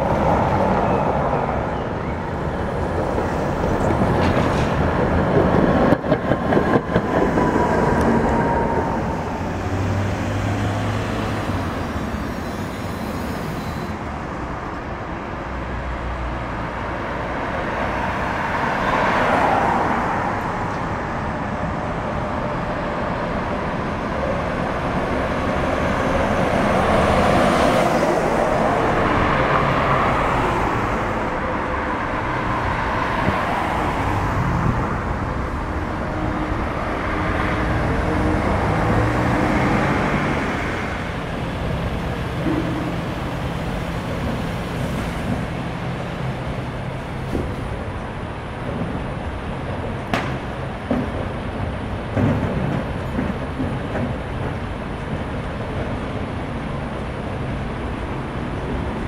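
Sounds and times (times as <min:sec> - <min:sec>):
street traffic: 0:00.0 - 0:59.0
tram passing: 0:00.0 - 0:59.0.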